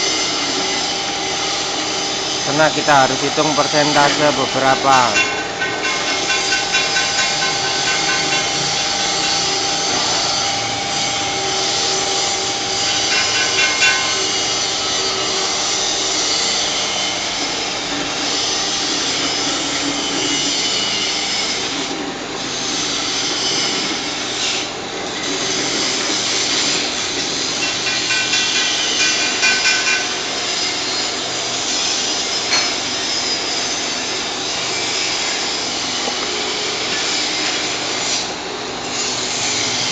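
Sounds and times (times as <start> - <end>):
cup cutting machine running: 0.0 - 39.9
machine whines: 0.0 - 39.9.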